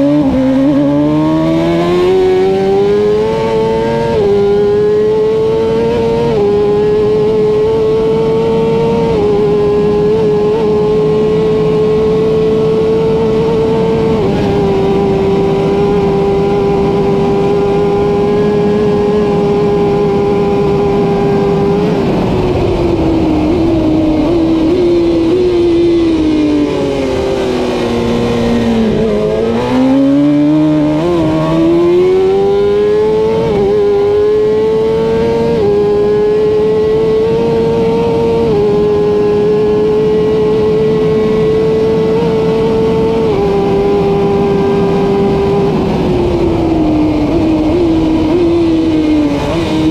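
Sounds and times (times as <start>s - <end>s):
motorcycle engine at high revs: 0.0s - 49.9s
wind rush: 7.1s - 49.9s.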